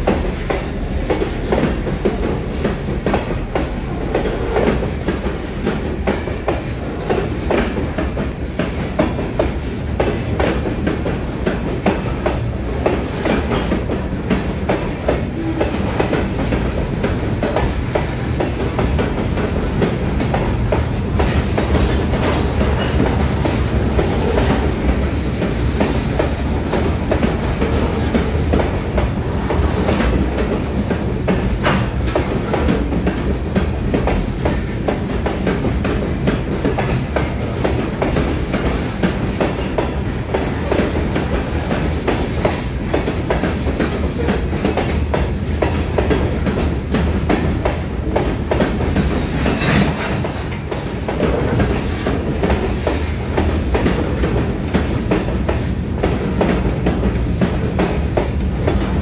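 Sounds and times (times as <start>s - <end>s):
train rolling rumble: 0.0s - 59.0s
train wheels clicking over rail joints: 0.0s - 59.0s.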